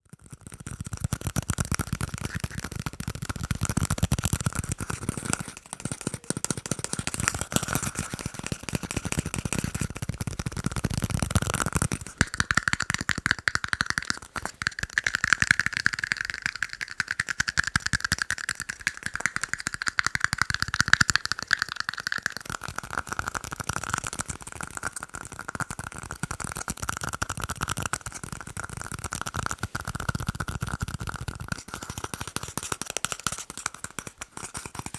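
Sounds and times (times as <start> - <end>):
rapid tapping on small cups: 0.1 - 34.9.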